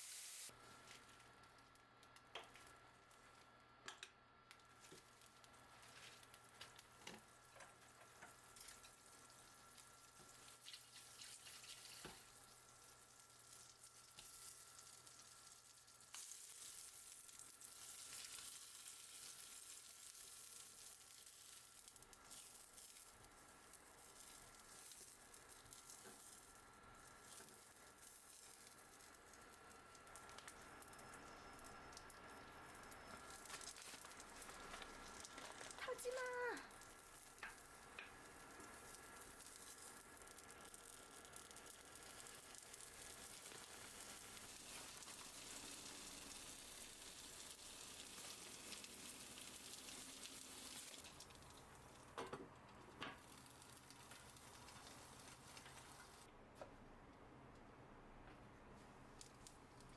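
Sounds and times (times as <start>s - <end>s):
food sizzling in a pan: 0.0s - 3.6s, 4.5s - 52.2s, 52.9s - 56.3s.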